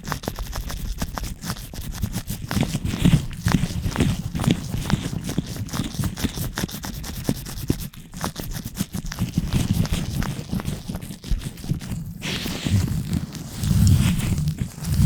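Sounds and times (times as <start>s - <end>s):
gloved hands rubbing microphone: 0.0s - 15.0s.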